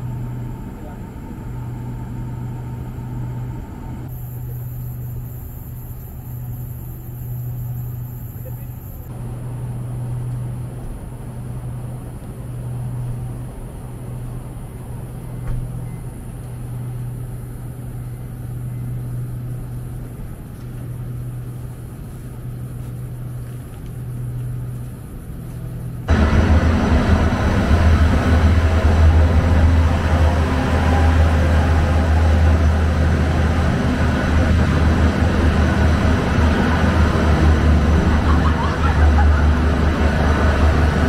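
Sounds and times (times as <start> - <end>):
train rumbling in motion: 0.0 - 41.0.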